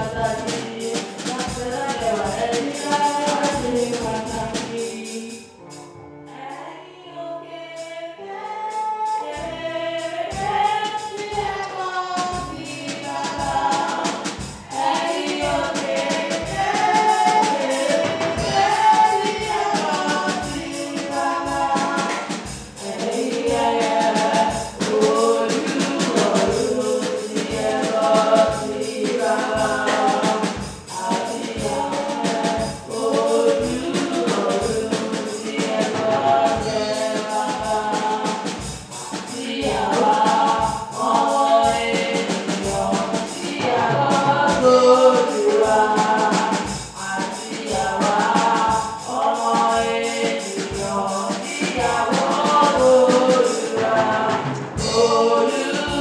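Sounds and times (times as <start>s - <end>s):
percussion beat: 0.0s - 6.0s, 9.1s - 56.0s
choir singing gospel song: 0.0s - 56.0s.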